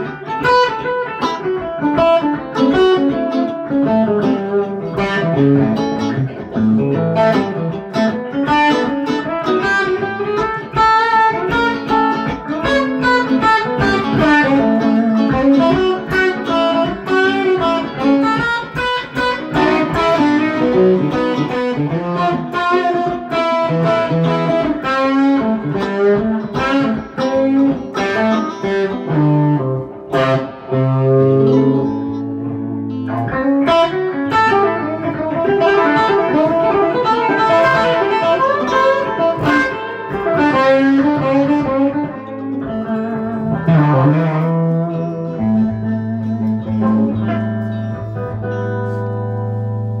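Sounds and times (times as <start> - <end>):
solo electric guitar: 0.0 - 50.0.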